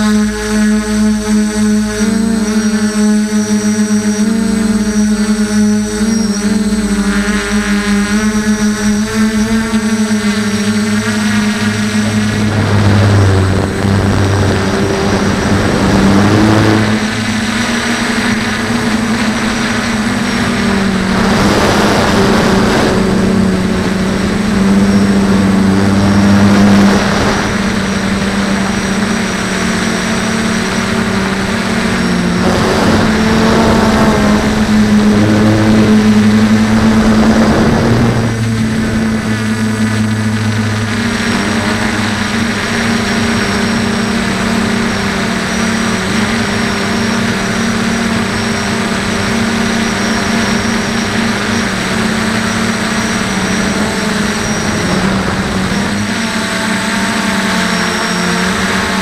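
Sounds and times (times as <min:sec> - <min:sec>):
quadcopter motors humming: 0:00.0 - 0:59.0
wind on microphone: 0:01.9 - 0:59.0.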